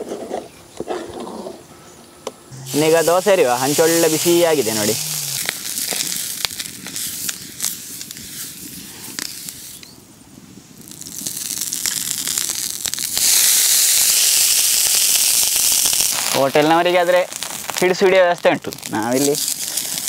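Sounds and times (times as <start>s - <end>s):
water sizzling on hot plate: 2.6s - 9.8s, 10.8s - 20.0s.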